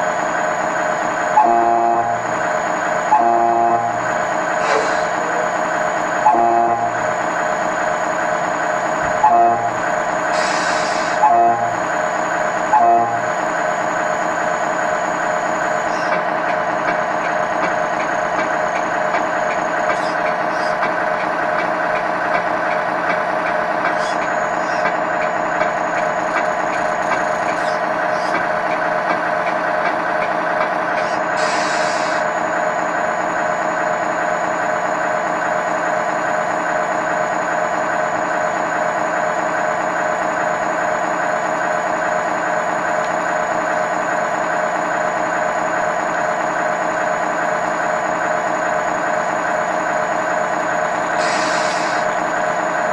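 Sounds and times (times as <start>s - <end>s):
simulated truck engine idling: 0.0s - 52.9s.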